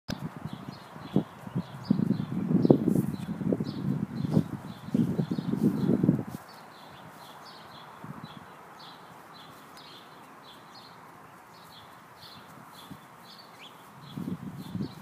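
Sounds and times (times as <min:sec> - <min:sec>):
bird chirping: 0:00.1 - 0:15.0
faint outdoor hiss: 0:00.1 - 0:15.0.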